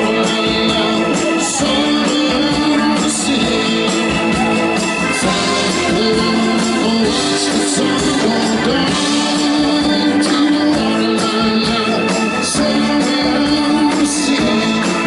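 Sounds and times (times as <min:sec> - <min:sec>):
blues-rock band playing: 0:00.0 - 0:15.0.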